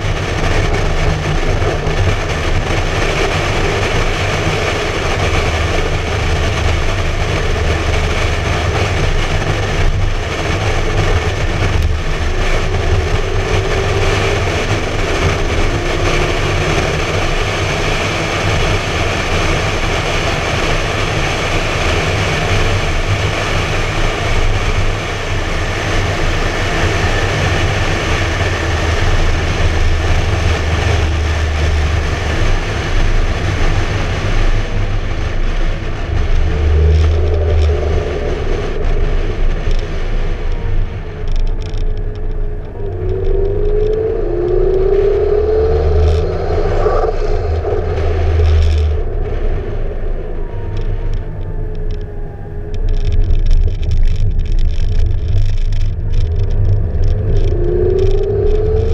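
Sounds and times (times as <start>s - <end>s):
car engine droning: 0.0s - 58.9s
wind and tyre noise: 0.0s - 58.9s
wind on microphone: 0.0s - 58.9s.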